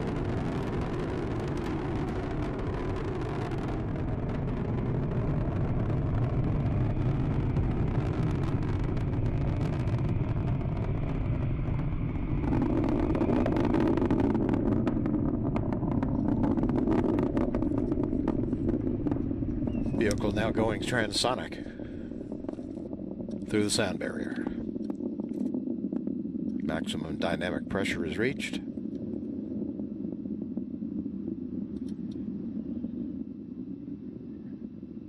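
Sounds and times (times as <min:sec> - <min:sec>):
rocket crackling: 0:00.0 - 0:35.0
rocket engines rumbling: 0:00.0 - 0:35.0.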